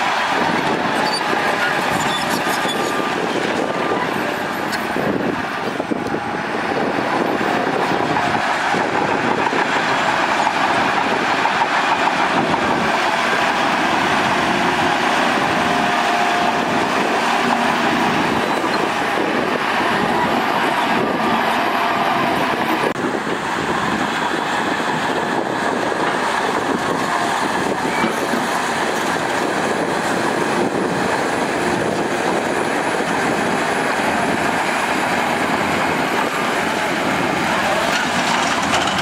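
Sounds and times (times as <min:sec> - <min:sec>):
bulldozer diesel engine droning: 0:00.0 - 0:39.0
steel tracks clanking: 0:00.0 - 0:39.0
wheel loader engine running: 0:00.0 - 0:39.0.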